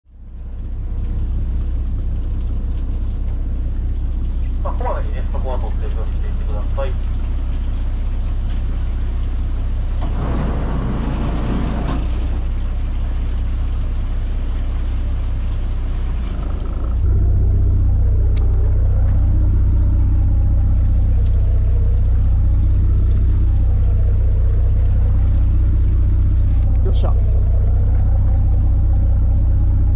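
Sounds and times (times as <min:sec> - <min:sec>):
boat engine rumbling: 0:00.0 - 0:29.9.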